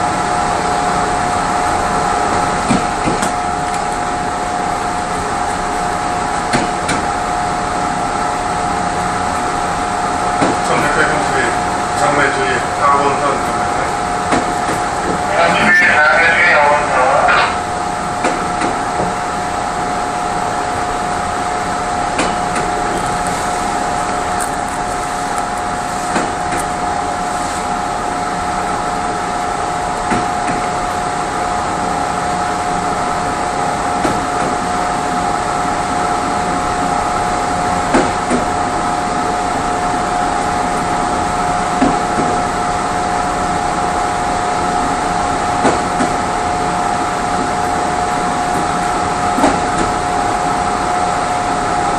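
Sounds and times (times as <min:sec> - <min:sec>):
train coach hum: 0:00.0 - 0:51.9.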